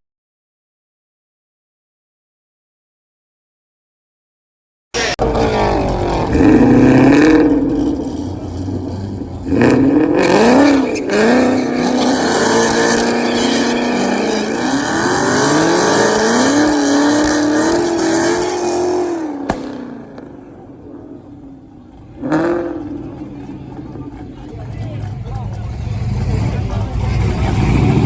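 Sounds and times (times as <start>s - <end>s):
car engine accelerating through gears: 5.0s - 28.0s.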